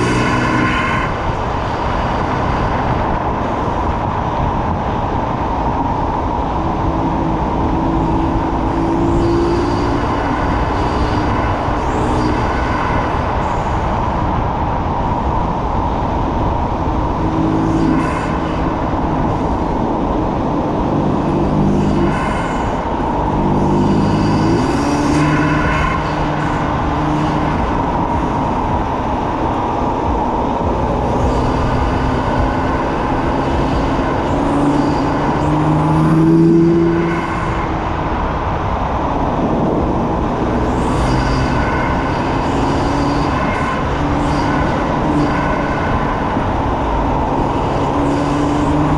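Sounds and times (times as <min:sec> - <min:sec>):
car engine running: 0:00.0 - 0:48.9
road noise: 0:00.0 - 0:48.9
wind noise: 0:00.0 - 0:48.9.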